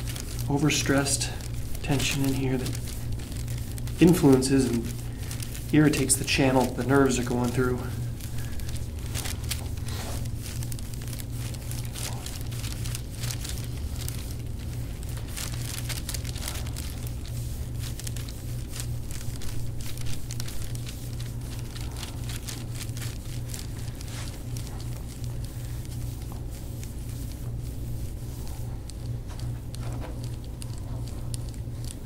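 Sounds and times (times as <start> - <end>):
crackling clicks of muscle: 0.0 - 32.0
steady low hum: 0.0 - 32.0.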